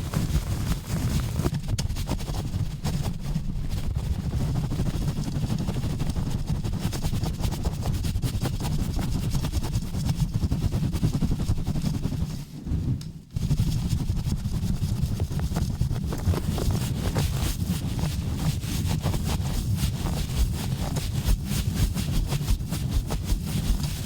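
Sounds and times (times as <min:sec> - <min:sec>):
rough handling noise on microphone: 0:00.0 - 0:24.0.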